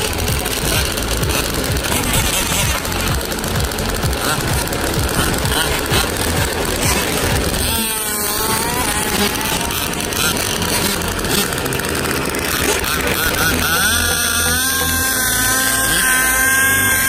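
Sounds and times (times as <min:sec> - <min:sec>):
radio-controlled car motor whining: 0:00.0 - 0:17.0.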